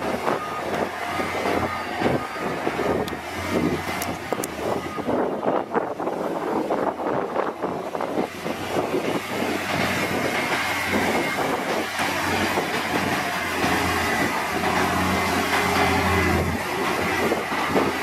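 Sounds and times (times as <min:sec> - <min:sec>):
diesel engine hum: 0:00.0 - 0:18.0.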